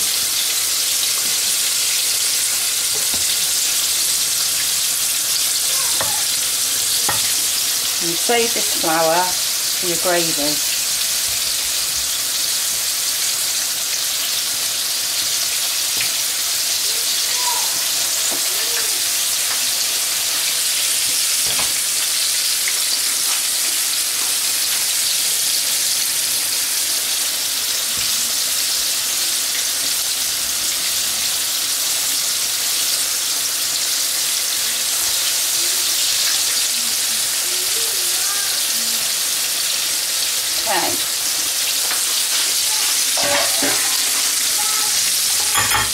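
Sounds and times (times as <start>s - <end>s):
chicken frying in oil: 0.0s - 45.9s.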